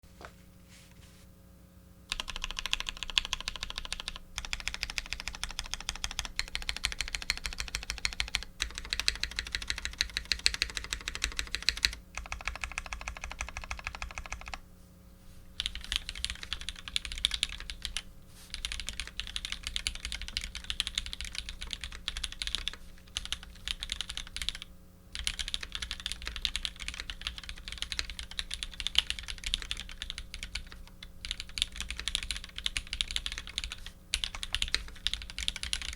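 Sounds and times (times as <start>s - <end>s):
mechanical keyboard typing: 2.1s - 14.6s, 15.6s - 35.9s.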